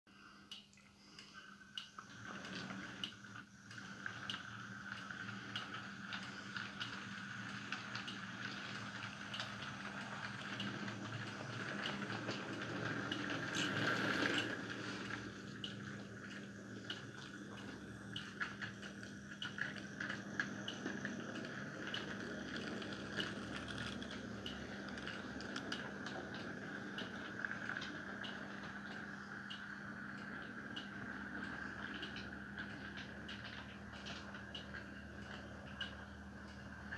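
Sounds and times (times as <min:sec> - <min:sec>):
model train motor hum: 0:00.2 - 0:36.9
light irregular clicking: 0:00.4 - 0:36.9.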